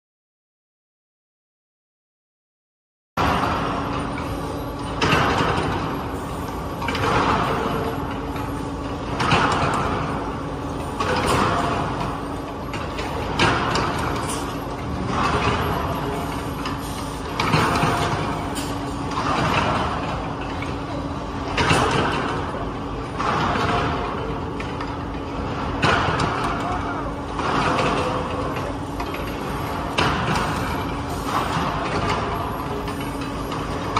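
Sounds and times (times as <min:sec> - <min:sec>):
machinery hum: 0:03.2 - 0:33.9.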